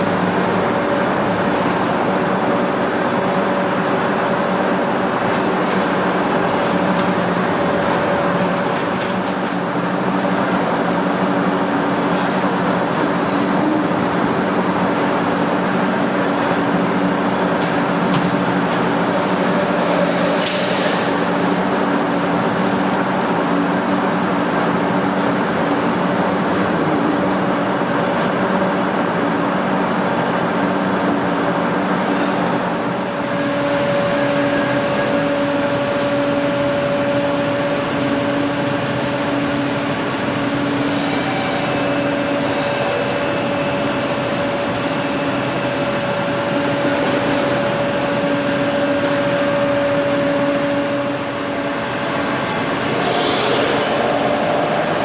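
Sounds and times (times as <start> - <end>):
high steady machine tone: 0.0 - 55.0
milling machine whine and hum: 0.0 - 55.0.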